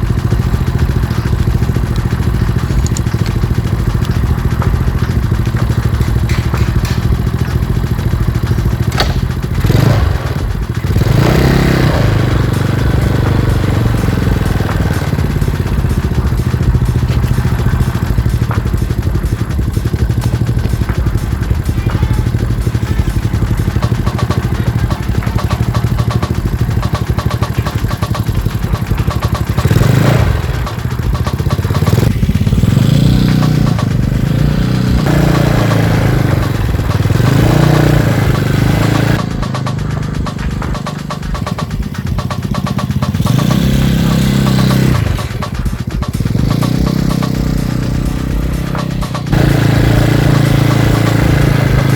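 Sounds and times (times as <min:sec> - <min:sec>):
scooter engine putting and revving: 0:00.0 - 0:51.9.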